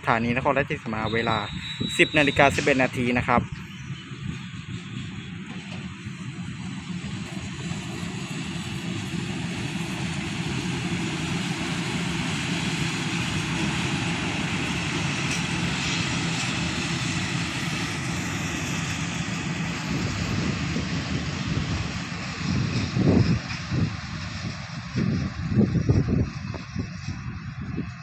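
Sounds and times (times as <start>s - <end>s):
diesel train engine drone: 0.0s - 28.0s.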